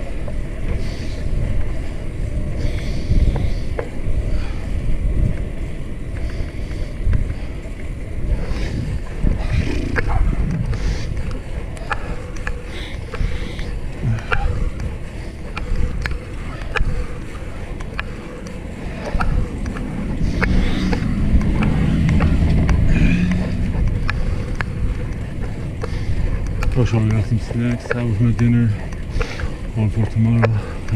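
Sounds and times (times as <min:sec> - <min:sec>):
bike tyre noise on asphalt: 0:00.0 - 0:30.9
wind rushing over microphone: 0:00.0 - 0:30.9.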